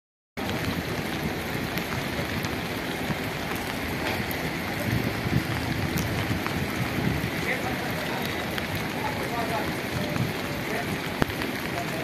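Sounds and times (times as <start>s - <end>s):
storm wind buffeting microphone: 0.4s - 12.0s.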